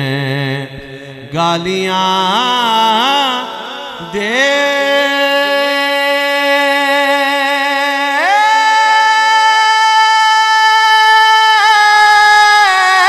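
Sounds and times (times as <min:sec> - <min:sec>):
man singing into a microphone: 0:00.0 - 0:13.0
sound system echo: 0:00.0 - 0:13.0.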